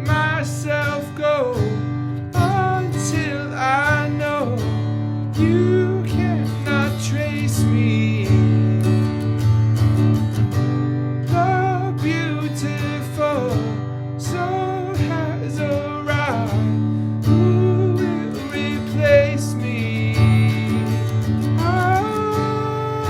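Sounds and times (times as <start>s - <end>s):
guitar lead lines with bends: 0.0s - 23.0s
strummed acoustic guitar loop: 0.0s - 23.0s.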